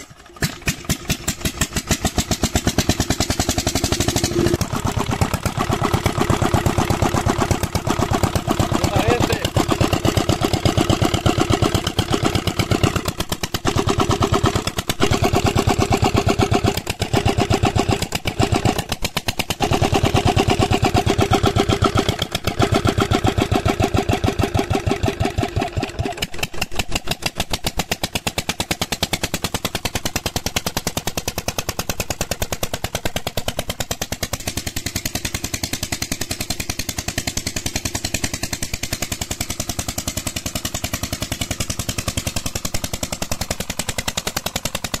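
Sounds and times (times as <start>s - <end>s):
diesel engine running: 0.0s - 26.3s, 34.2s - 45.0s.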